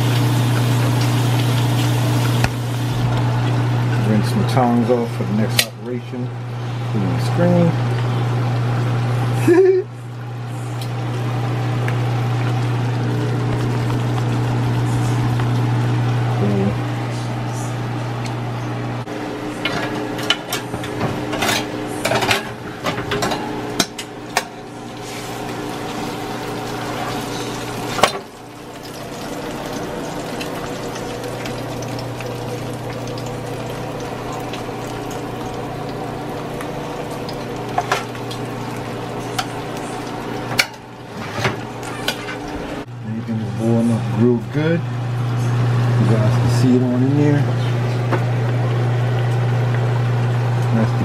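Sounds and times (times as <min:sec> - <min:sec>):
frying sizzle: 0:00.0 - 0:42.9, 0:43.8 - 0:51.0.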